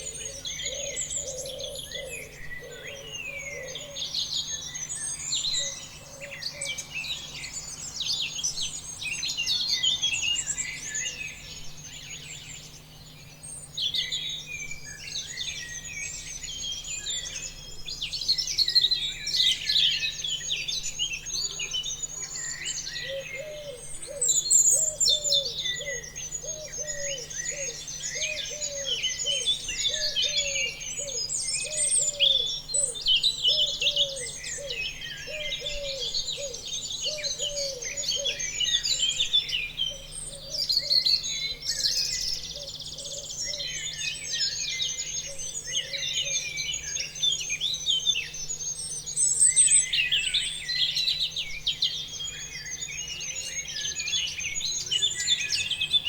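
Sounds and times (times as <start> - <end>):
low repeated bird call: 0.0 - 56.0
songbirds chirping and trilling: 0.0 - 56.0.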